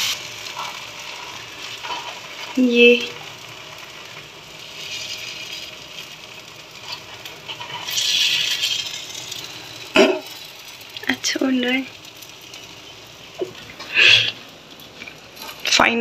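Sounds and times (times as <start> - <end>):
batter sizzling on hot griddle: 0.0 - 16.0.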